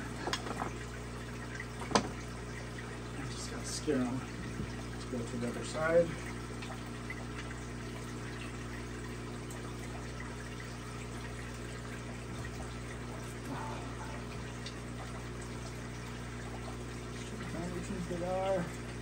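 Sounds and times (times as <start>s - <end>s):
aquarium pump humming: 0.0s - 19.0s
water trickling: 0.0s - 19.0s.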